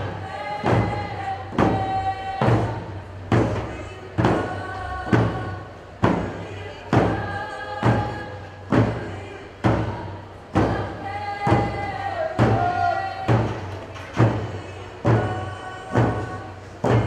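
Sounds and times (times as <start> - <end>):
group singing: 0.0 - 17.0.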